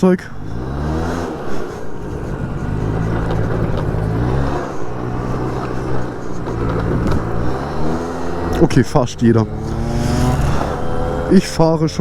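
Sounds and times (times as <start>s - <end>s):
small scooter engine accelerating: 0.0s - 12.0s.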